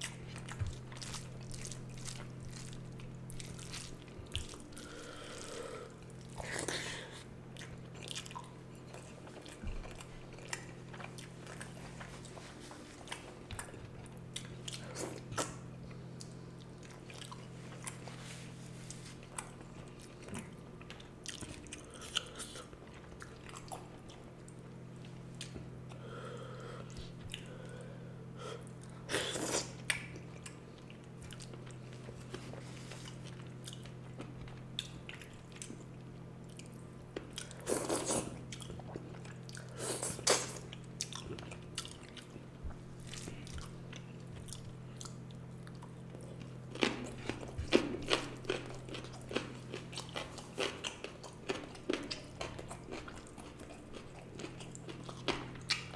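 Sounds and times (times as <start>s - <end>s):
chewing and mouth sounds: 0.0s - 26.0s, 28.6s - 55.9s
steady low hum: 0.0s - 55.9s.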